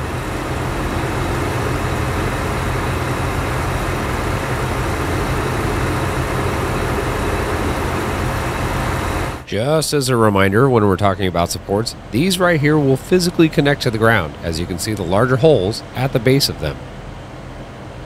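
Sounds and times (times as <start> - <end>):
heavy vehicle engine idling: 0.0 - 18.0.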